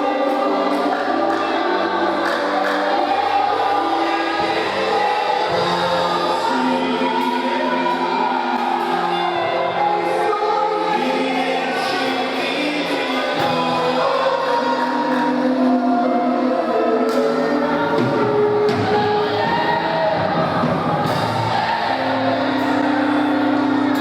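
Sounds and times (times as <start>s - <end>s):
congregation singing worship song: 0.0s - 24.0s
music accompaniment: 0.0s - 24.0s.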